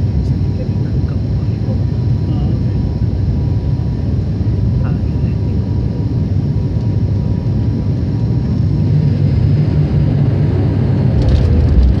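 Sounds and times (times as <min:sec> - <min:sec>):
aircraft engines and wheels rumbling: 0:00.0 - 0:12.0.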